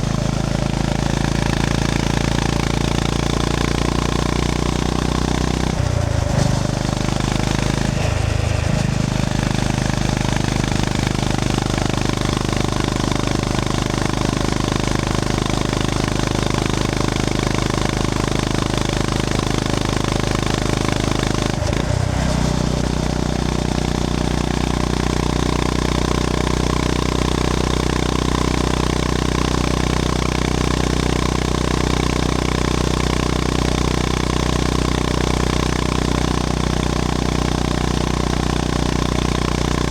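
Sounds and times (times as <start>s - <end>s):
motorcycle engine rumbling: 0.0s - 35.0s.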